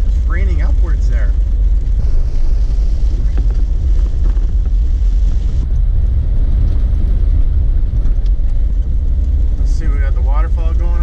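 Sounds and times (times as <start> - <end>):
engine and tyres rumbling: 0.0 - 11.0.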